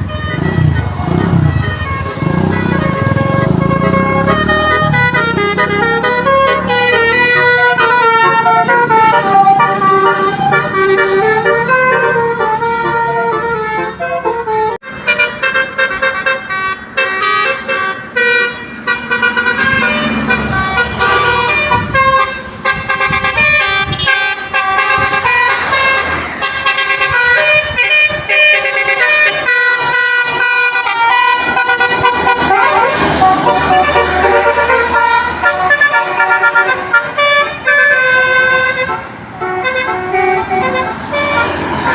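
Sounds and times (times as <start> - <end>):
multi-tone musical horns: 0.0 - 41.9
traffic noise: 0.0 - 41.9.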